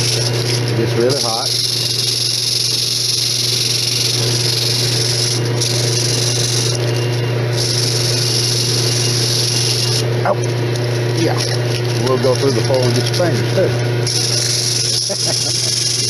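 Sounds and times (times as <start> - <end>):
lathe motor hum: 0.0 - 16.0.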